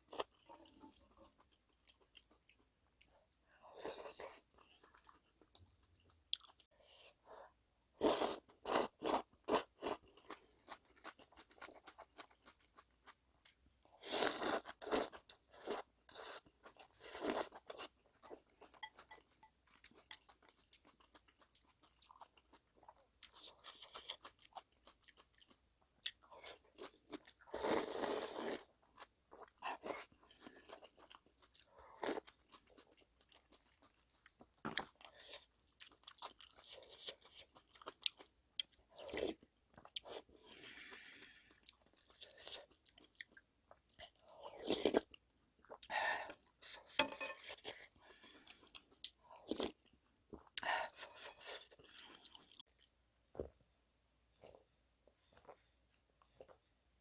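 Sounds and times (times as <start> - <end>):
chewing and crunching food: 0.0 - 7.2, 8.0 - 53.6.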